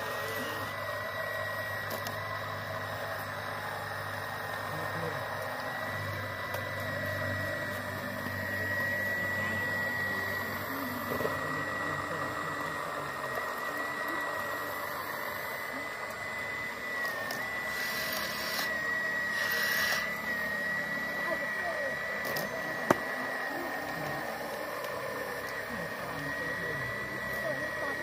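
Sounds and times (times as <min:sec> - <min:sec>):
toy excavator motor whine: 0:00.0 - 0:28.0.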